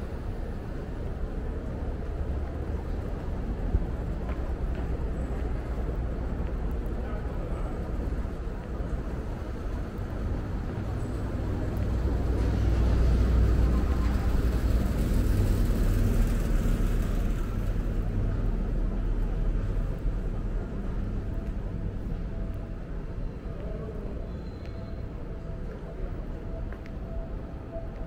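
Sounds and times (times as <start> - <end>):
city traffic rumble: 0.0 - 28.0.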